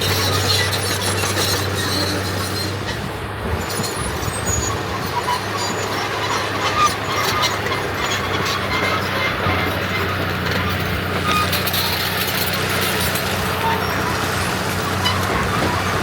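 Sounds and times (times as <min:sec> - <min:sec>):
earthmoving machinery engine hum: 0:00.0 - 0:16.0
metallic clanks and squeaks: 0:00.0 - 0:16.0.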